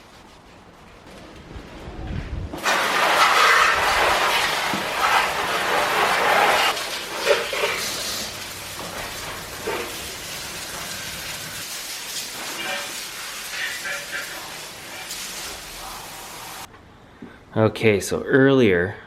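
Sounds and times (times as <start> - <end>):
garden hose spraying water: 0.0 - 1.2, 2.6 - 16.7.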